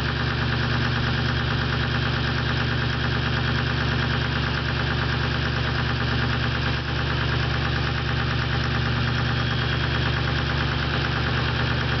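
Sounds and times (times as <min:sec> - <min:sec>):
diesel engine idling with clatter: 0:00.0 - 0:12.0.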